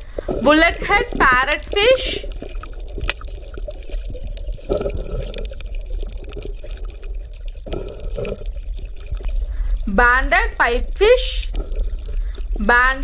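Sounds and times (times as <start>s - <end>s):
dense crackling clicks: 0.0s - 13.0s
underwater low rumble: 0.0s - 13.0s
watery bursts: 0.0s - 13.0s.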